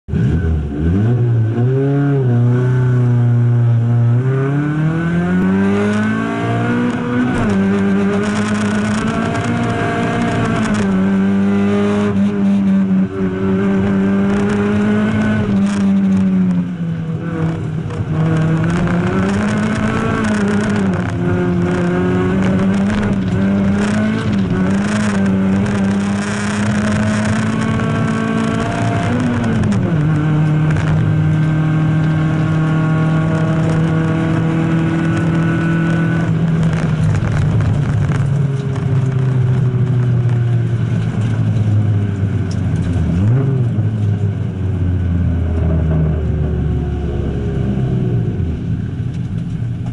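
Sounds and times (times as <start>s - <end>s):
race car engine revving: 0.1s - 49.9s.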